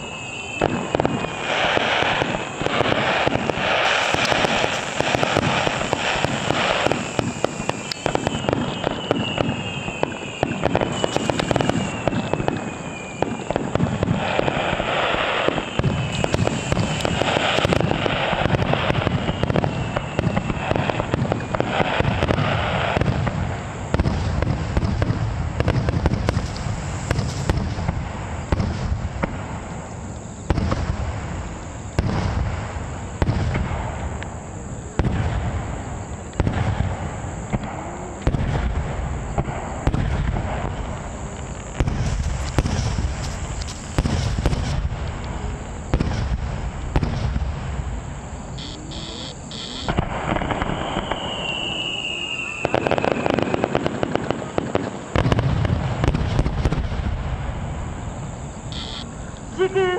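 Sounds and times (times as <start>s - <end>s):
crackling fizzing firework stars: 0.0s - 59.9s
firework shells booming: 0.6s - 59.9s.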